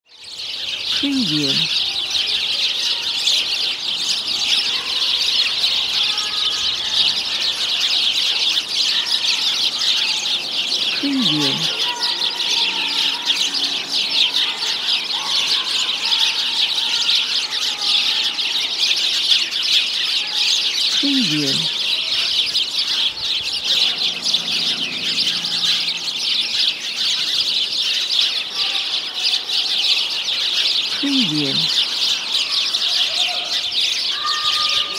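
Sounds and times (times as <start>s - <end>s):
flock of small birds chirping: 0.0s - 34.9s.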